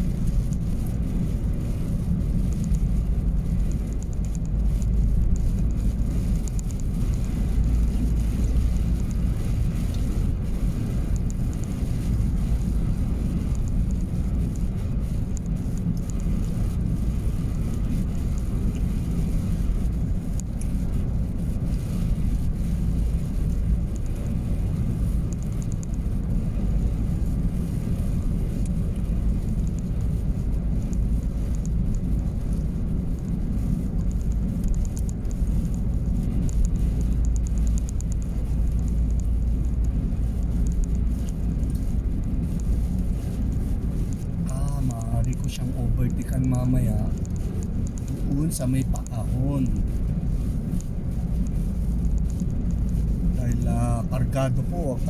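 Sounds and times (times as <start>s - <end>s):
tyre noise on snowy road: 0.0s - 55.0s
vehicle engine rumble: 0.0s - 55.0s.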